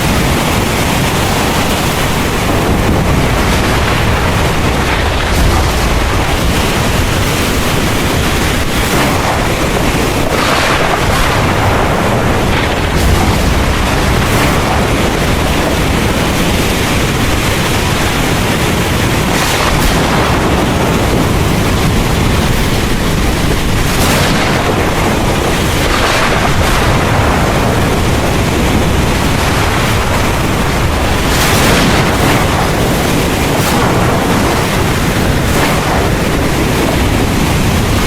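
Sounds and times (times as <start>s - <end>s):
heavy rain pouring: 0.0s - 38.0s
thunder rumbling: 0.0s - 38.0s.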